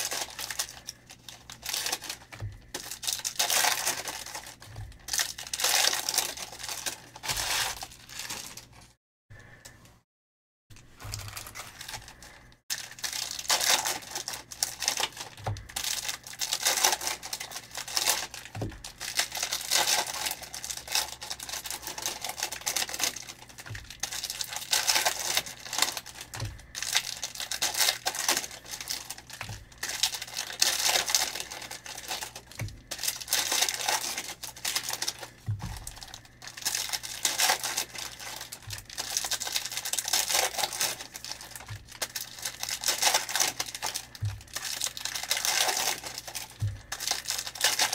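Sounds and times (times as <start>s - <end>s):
cards and wrappers crinkling: 0.0s - 9.0s, 10.7s - 47.9s.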